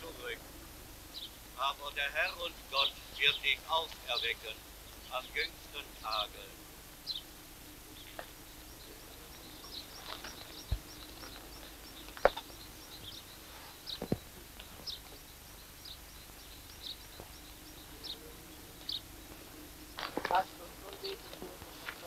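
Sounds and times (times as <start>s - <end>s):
faint background hiss: 0.0s - 22.0s
small birds chirping: 0.0s - 22.0s.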